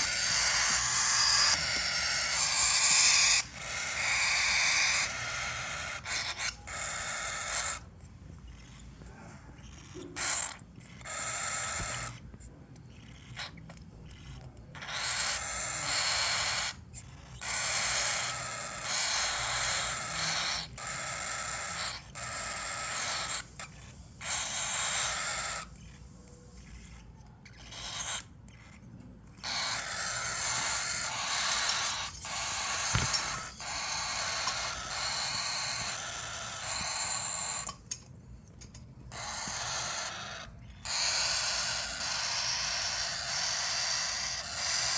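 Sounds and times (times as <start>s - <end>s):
chicks raspy begging calls: 0.0s - 8.0s, 8.6s - 12.3s, 14.2s - 26.0s, 27.6s - 28.7s, 29.4s - 37.8s, 39.1s - 44.9s.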